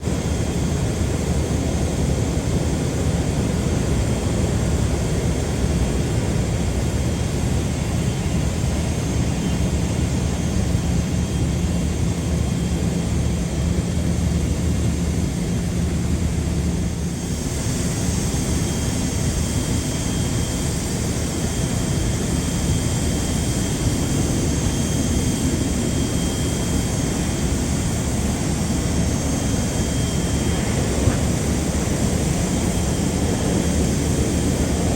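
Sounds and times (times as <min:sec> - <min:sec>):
jet engines rumbling: 0:00.0 - 0:34.9.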